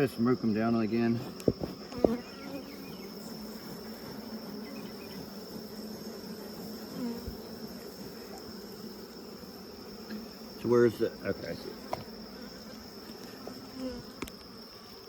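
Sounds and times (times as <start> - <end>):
high insect trill: 0.0 - 15.0
honey bees buzzing: 0.0 - 15.0.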